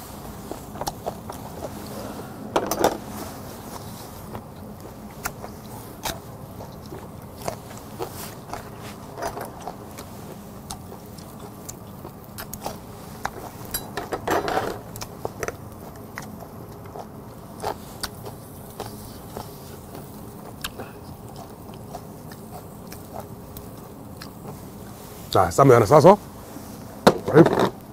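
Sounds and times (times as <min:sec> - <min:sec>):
man chewing crunchy pepper: 0:00.0 - 0:14.0, 0:14.8 - 0:25.0
steady low hum: 0:00.0 - 0:27.9.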